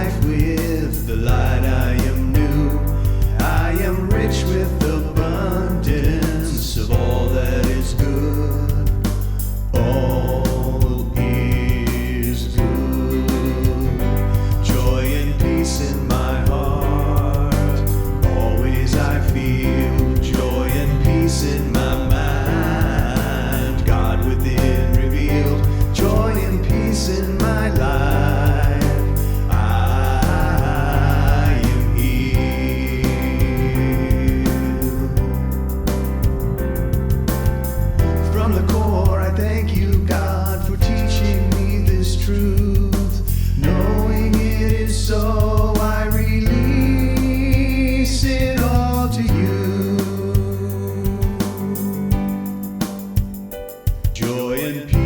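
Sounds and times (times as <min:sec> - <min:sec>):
person singing live: 0:00.0 - 0:35.4, 0:38.2 - 0:52.5, 0:54.2 - 0:55.0
sustained bass: 0:00.0 - 0:53.5, 0:54.2 - 0:55.0
gospel song with band: 0:00.0 - 0:55.0
steady beat: 0:00.0 - 0:55.0.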